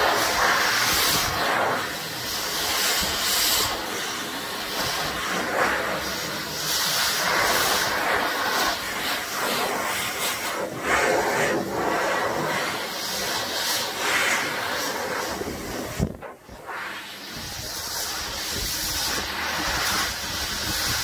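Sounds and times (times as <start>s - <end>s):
dog dryer blowing air: 0.0s - 21.0s.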